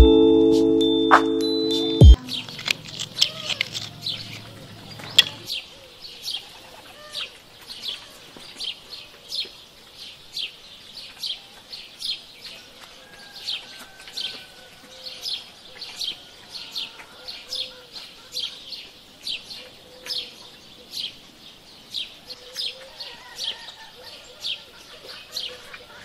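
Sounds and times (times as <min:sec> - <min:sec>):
small birds chirping: 0:02.0 - 0:26.0.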